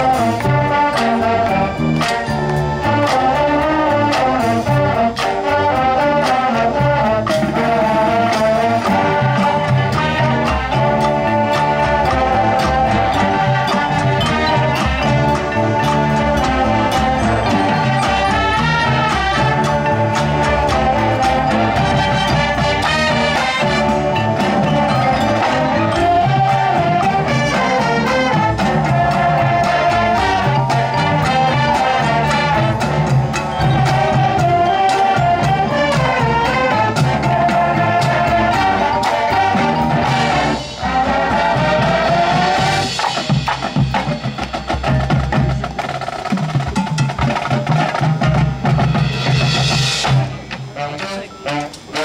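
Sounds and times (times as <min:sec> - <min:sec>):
marching band playing: 0:00.0 - 0:52.0.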